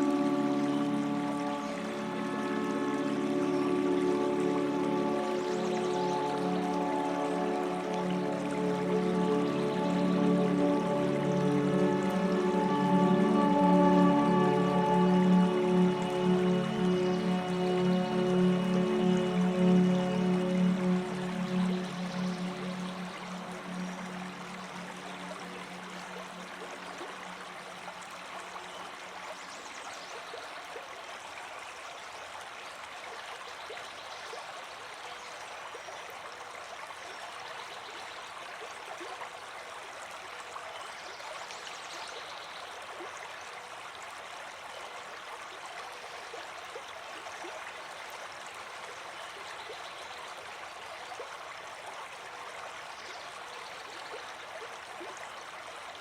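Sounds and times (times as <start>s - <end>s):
stream babbling and trickling: 0.0s - 56.0s.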